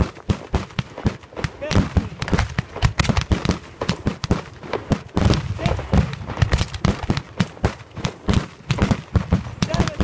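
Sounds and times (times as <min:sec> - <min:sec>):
fireworks bursting with sharp bangs: 0:00.0 - 0:10.0.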